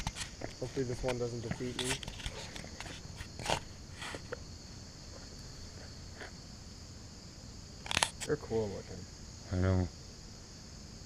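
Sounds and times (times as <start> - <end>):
high insect chirring: 0.0 - 11.0.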